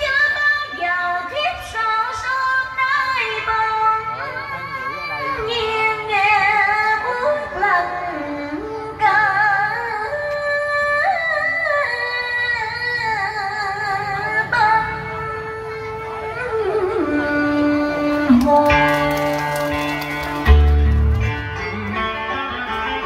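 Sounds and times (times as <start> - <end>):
woman singing: 0.0 - 19.9
music: 0.0 - 23.0.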